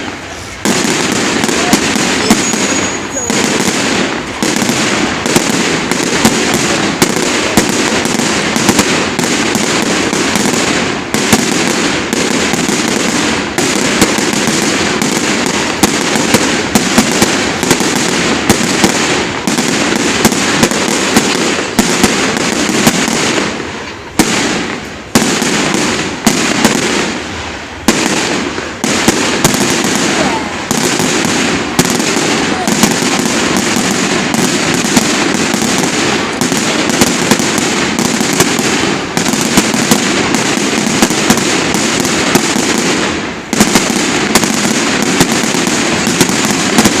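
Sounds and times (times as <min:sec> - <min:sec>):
fireworks crackling and banging: 0:00.0 - 0:47.0.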